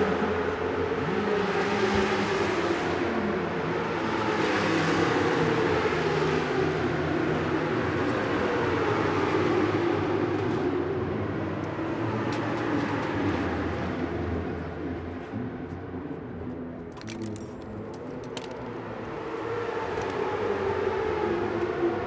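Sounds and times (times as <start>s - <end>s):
racing motorcycle engines running: 0.0s - 22.0s.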